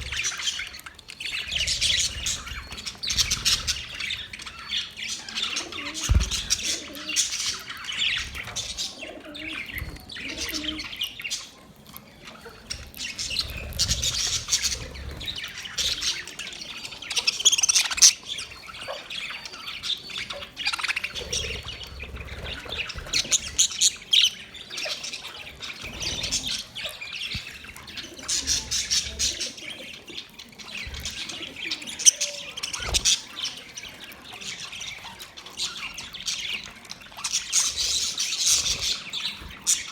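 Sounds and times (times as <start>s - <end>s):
parrots chirping and squawking: 0.0s - 39.9s.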